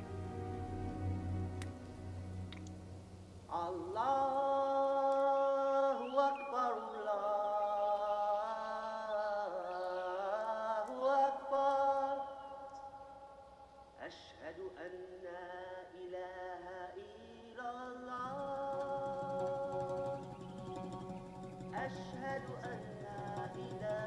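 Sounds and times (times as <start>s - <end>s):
man singing call to prayer: 3.5s - 13.4s, 14.0s - 24.0s.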